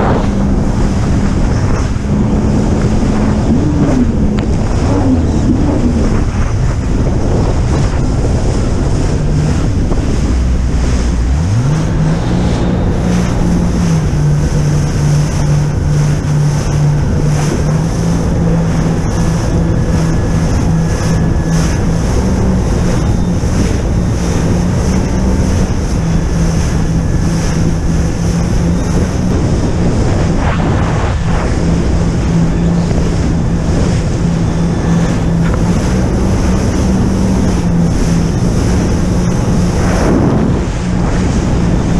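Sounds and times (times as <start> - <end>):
jet ski engine revving: 0.0 - 41.9
rushing water: 0.0 - 41.9
wind buffeting microphone: 0.0 - 41.9.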